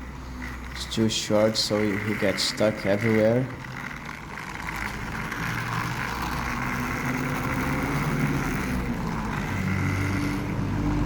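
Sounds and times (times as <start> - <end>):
toy train motor whirring: 0.0 - 11.0.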